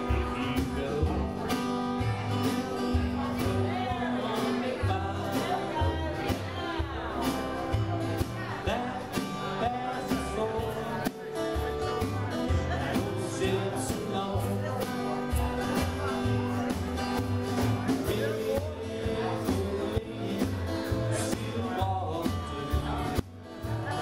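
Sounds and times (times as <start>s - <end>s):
live band playing: 0.0s - 24.0s
strummed acoustic guitars: 0.0s - 24.0s.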